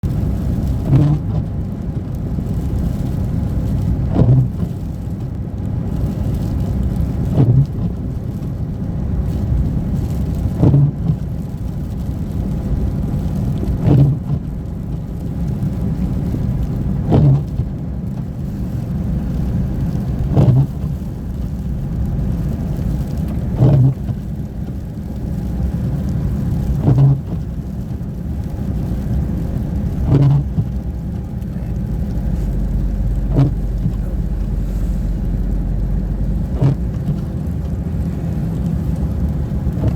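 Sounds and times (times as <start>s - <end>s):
car rumbling on the move: 0.0s - 39.9s.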